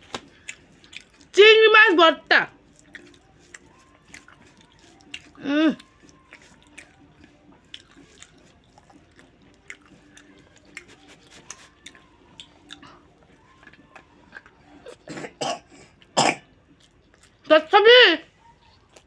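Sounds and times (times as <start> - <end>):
person chewing food: 0.0 - 1.4, 2.5 - 17.5, 18.3 - 19.0.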